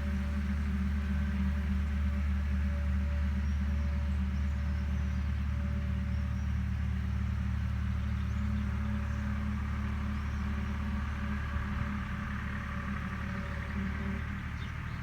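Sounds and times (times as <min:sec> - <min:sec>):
distant machine engine droning: 0:00.0 - 0:15.0.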